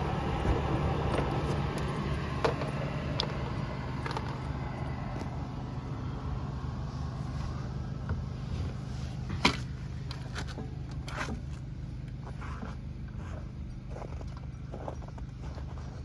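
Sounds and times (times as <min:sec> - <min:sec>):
generator humming: 0:00.0 - 0:16.0.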